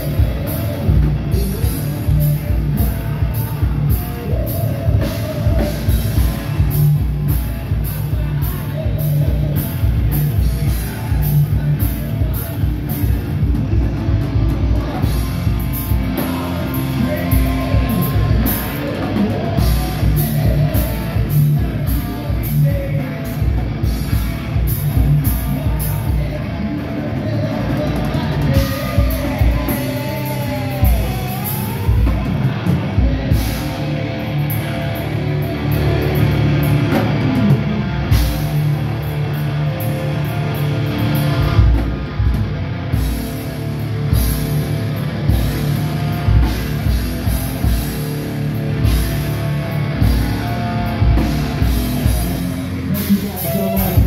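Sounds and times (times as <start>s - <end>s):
fast drums with cymbal hits: 0.0s - 54.0s
heavy metal band playing live: 0.0s - 54.0s.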